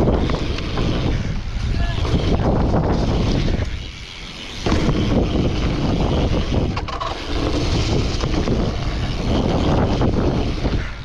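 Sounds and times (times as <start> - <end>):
bike landing: 0.0 - 11.0
bike tyres rolling over dirt: 0.0 - 11.0
wind buffeting microphone: 0.0 - 11.0.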